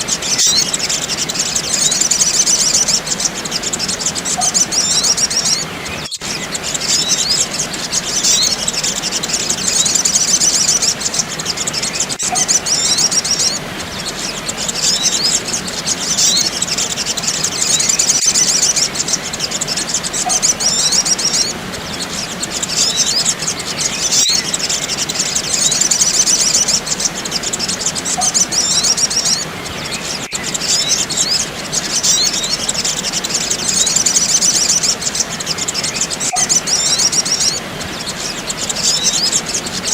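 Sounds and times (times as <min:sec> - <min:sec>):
bird chirping and twittering: 0:00.0 - 0:39.9
steady hiss: 0:00.0 - 0:39.9.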